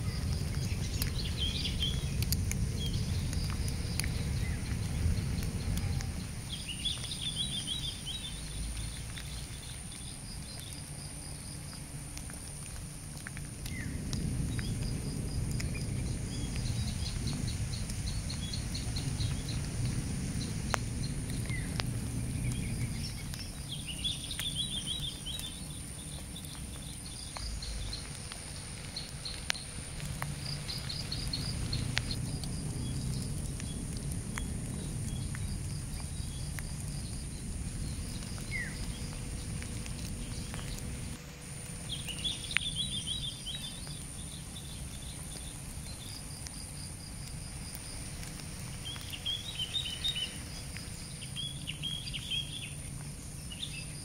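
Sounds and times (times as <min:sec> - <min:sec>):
low rumble: 0:00.0 - 0:10.8, 0:11.7 - 0:45.2
small birds chirping: 0:00.0 - 0:54.0.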